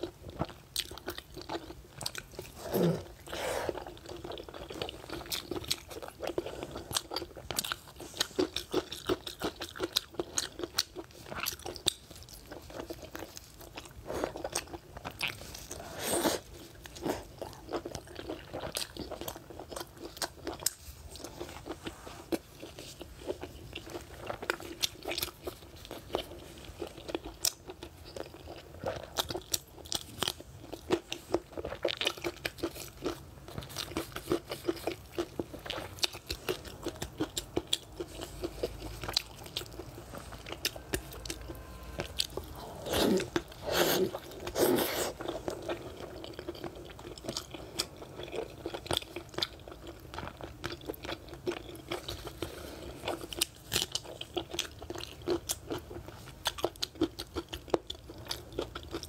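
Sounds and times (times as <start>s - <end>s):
wet chewing with mouth clicks: 0.0s - 59.0s.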